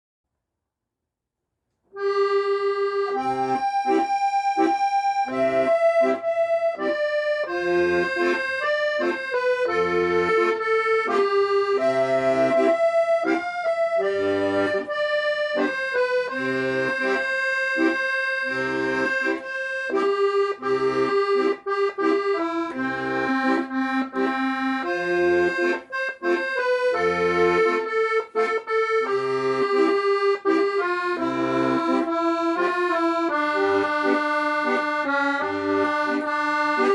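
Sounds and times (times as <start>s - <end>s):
solo accordion playing: 2.0s - 36.9s.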